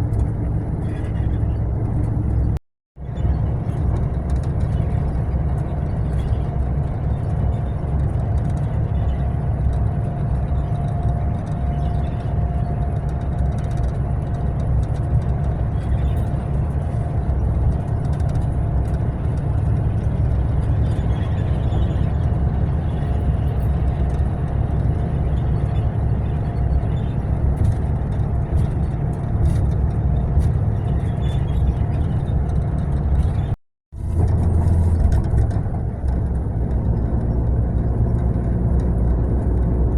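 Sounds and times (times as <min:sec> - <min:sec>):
coach engine and road rumble: 0:00.0 - 0:39.9
constant whine: 0:00.0 - 0:39.9.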